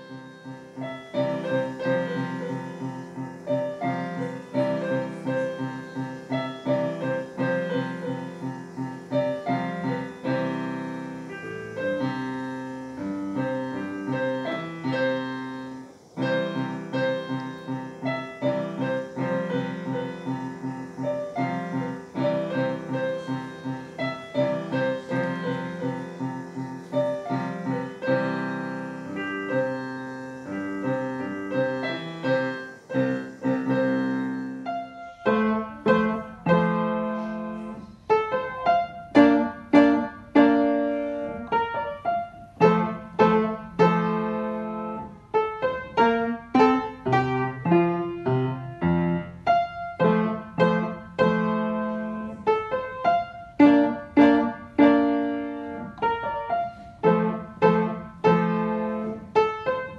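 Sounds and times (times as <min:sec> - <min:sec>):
acoustic piano minuet: 0:00.0 - 0:59.9
digital piano duet: 0:00.0 - 0:59.9.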